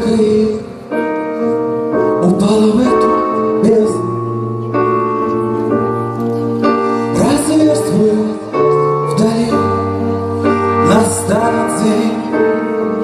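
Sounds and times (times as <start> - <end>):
keyboard chords: 0.0 - 13.0.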